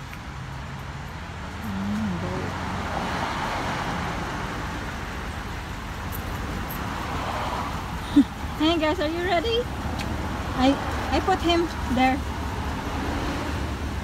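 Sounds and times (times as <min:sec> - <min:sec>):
car engine and tyre hum: 0:00.0 - 0:14.0.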